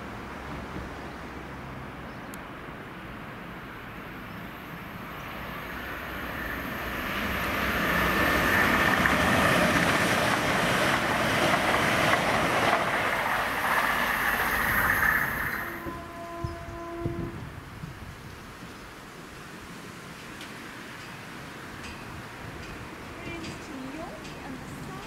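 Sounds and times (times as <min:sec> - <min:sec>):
train wheel and rail noise: 0:00.0 - 0:25.0.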